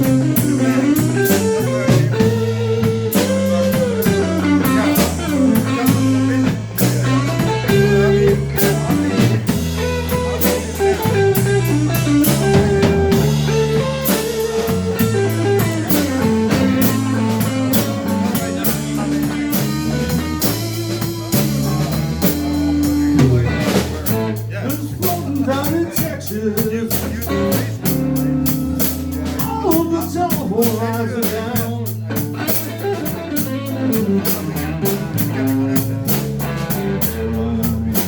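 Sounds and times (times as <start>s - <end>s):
bass: 0.0s - 38.0s
drum kit: 0.0s - 38.0s
electric guitar bending notes: 0.0s - 38.0s.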